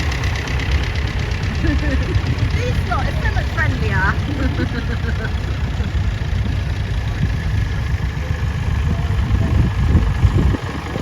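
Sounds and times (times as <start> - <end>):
tractor engines idling: 0.0 - 11.0.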